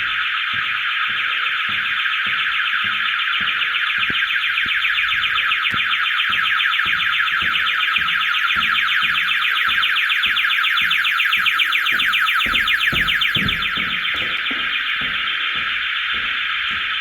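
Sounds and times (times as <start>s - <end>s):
warbling electronic alarm: 0.0s - 17.0s.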